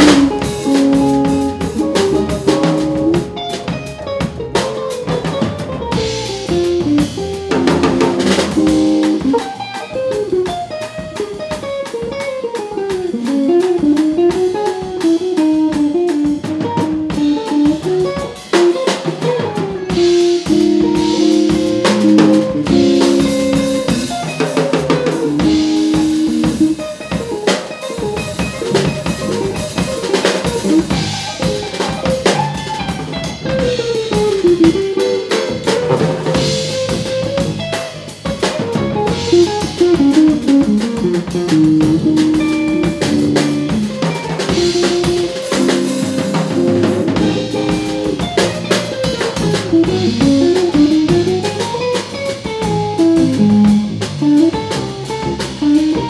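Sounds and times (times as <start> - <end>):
drum kit: 0.0 - 56.0
funk jazz band playing: 0.0 - 56.0.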